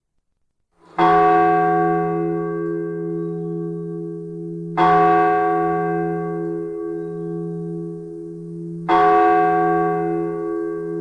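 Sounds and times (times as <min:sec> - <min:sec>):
large tower bell tolling: 0:00.9 - 0:11.0.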